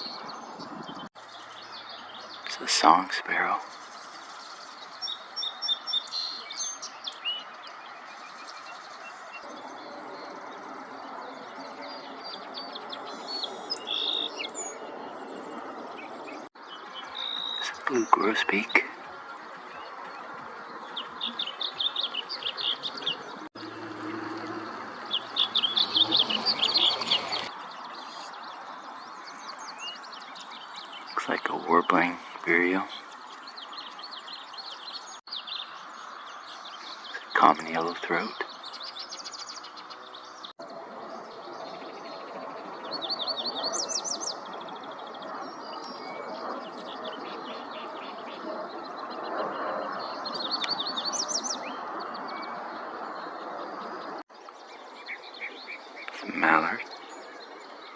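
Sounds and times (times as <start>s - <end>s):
songbird singing: 0.0s - 57.9s.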